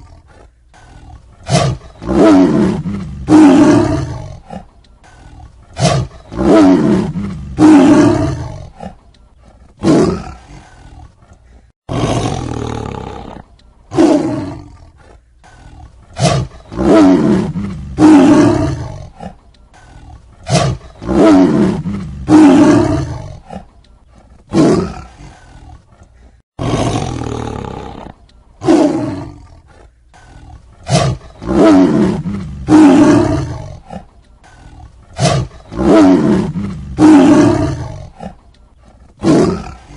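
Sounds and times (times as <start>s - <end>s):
tiger roaring and snarling: 0.0s - 39.9s.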